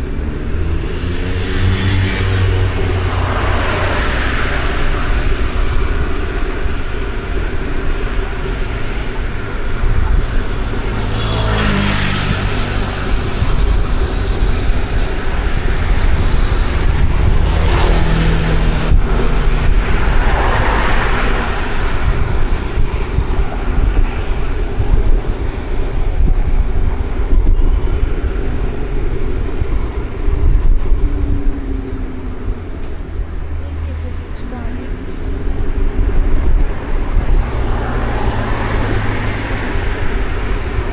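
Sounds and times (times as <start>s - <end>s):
traffic rumble: 0.0s - 40.9s.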